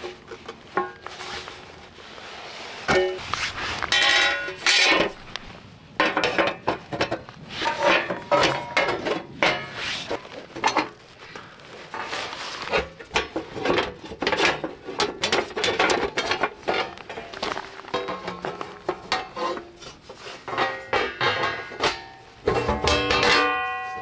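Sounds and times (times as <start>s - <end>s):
steel plates clanking and scraping: 2.8s - 11.0s, 11.9s - 24.0s.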